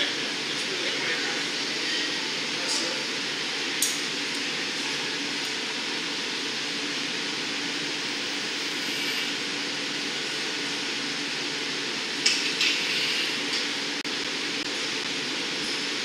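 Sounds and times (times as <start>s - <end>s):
exhaust fans running: 0.0s - 16.0s
furnace burners roaring: 0.0s - 16.0s.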